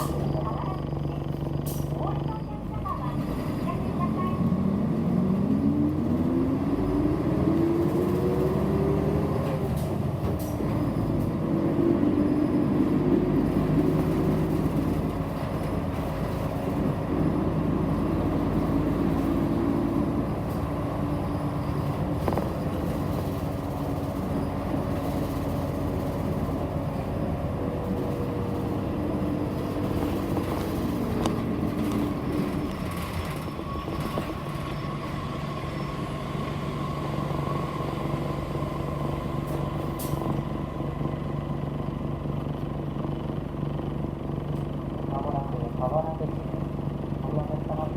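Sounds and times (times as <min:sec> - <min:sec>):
bus engine whine: 0:00.0 - 0:47.9
road rumble: 0:00.0 - 0:47.9.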